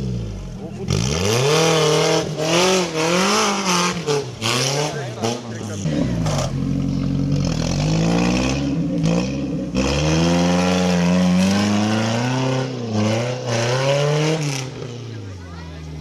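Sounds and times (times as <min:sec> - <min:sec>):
engine revving hard: 0:00.0 - 0:15.1.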